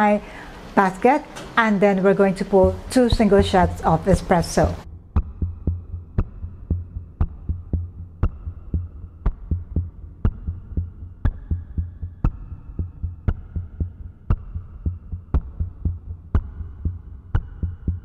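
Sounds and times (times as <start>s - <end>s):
background music with steady beat: 2.4s - 18.0s.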